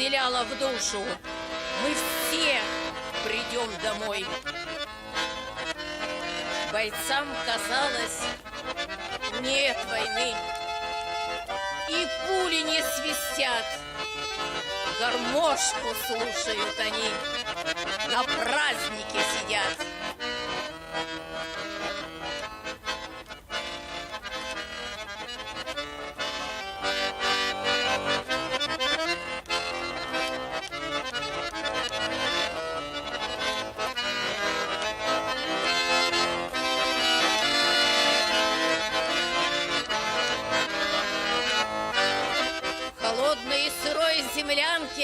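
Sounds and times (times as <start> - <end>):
accordion playing: 0.0 - 45.0.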